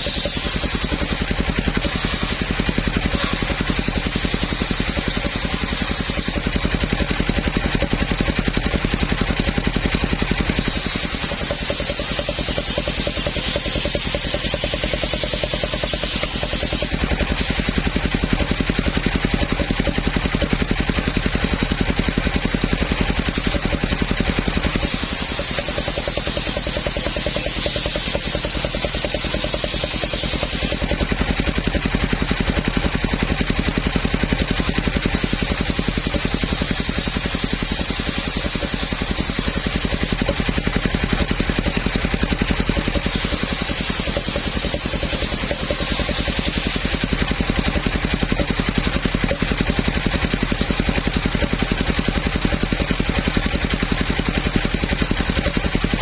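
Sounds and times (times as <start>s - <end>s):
saw blade cutting wood: 0.0s - 56.0s
sawmill engine running: 0.0s - 56.0s.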